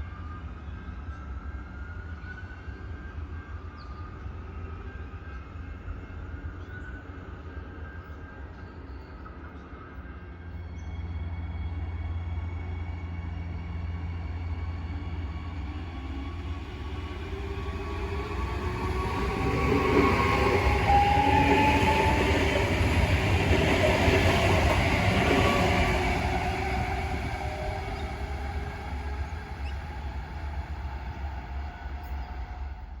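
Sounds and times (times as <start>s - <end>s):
electric train rumble: 0.0s - 33.0s.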